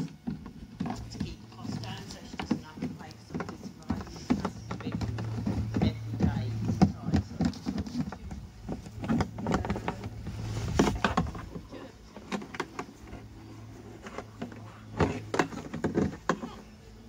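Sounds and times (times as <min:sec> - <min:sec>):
plastic watering can clattering: 0:00.0 - 0:16.7.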